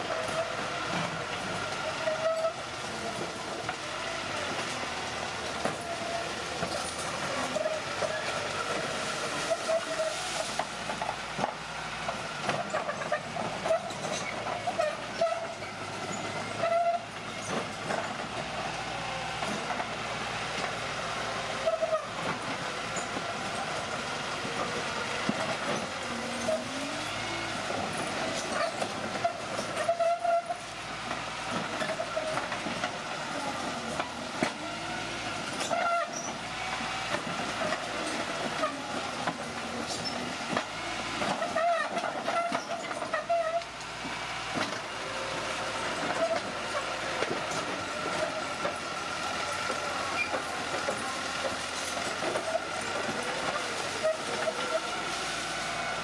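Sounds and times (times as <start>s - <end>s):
diesel engine running: 0.0s - 56.0s
steel tracks squealing: 0.0s - 56.0s.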